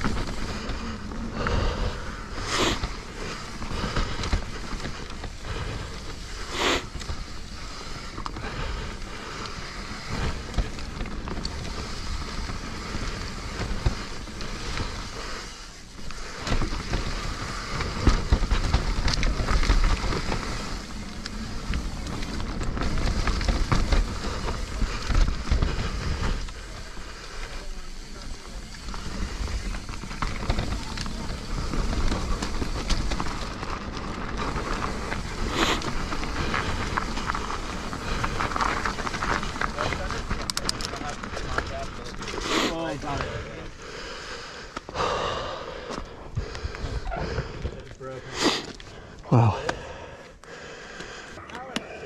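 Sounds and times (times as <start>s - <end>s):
bike rattling and knocking: 0.0s - 44.0s
tyres rolling over dirt: 0.0s - 52.0s.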